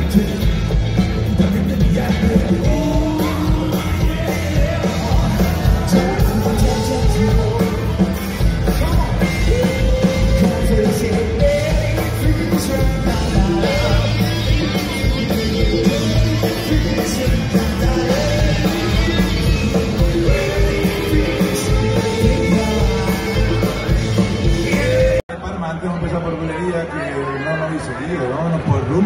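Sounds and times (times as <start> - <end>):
person singing: 0.0 - 25.3
rock band playing: 0.0 - 25.3.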